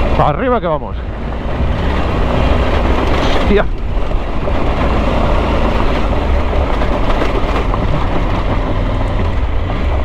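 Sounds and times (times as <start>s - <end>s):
motorcycle engine pulling uphill: 0.0s - 10.0s
motorcycle rattling over loose stones: 0.0s - 10.0s.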